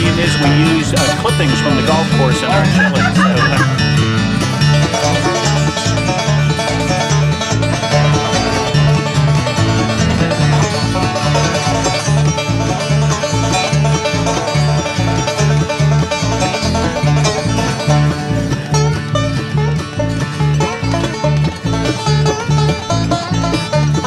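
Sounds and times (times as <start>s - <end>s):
banjo picking: 0.0s - 24.0s
bass beat: 0.0s - 24.0s.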